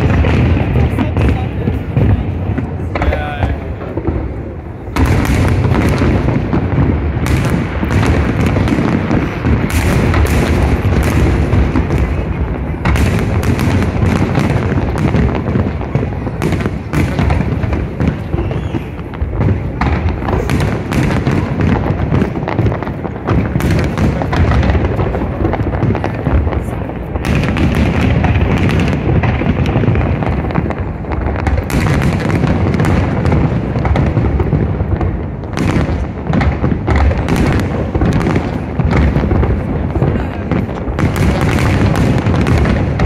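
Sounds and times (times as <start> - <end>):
fireworks booms: 0.0 - 43.0
fireworks cracks and bangs: 0.0 - 43.0.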